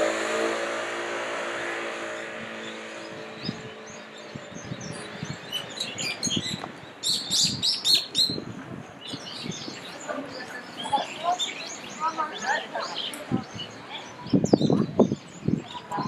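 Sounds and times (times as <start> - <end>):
small birds chirping: 2.0 - 16.0.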